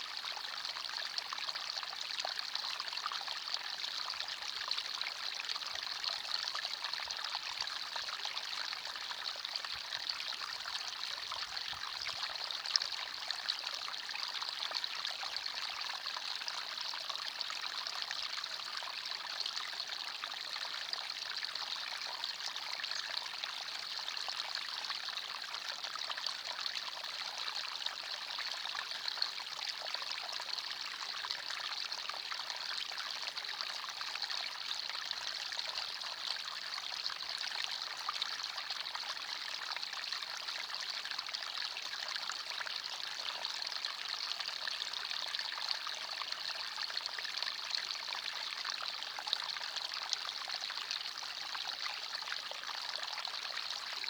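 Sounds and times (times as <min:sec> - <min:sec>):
stream trickling over stones: 0:00.1 - 0:54.0.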